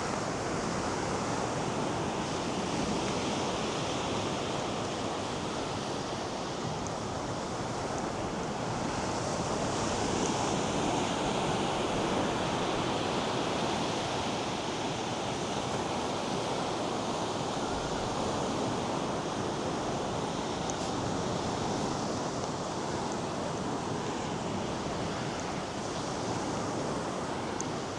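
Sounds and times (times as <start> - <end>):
surf washing up beach: 0.0 - 27.9.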